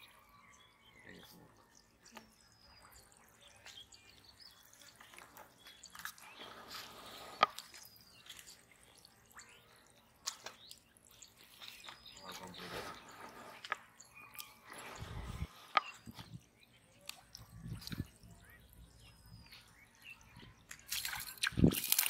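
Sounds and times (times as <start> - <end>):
small water splashes and drips: 0.0 - 22.0.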